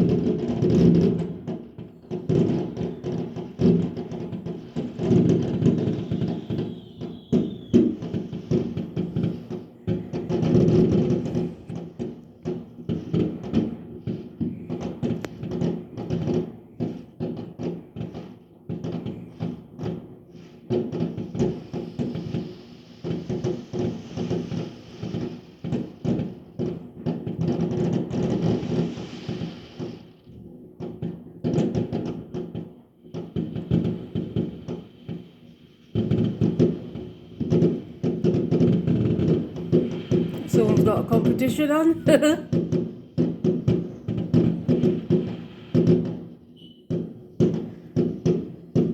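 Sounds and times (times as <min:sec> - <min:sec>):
fireworks bangs and thuds: 0:00.0 - 0:48.9.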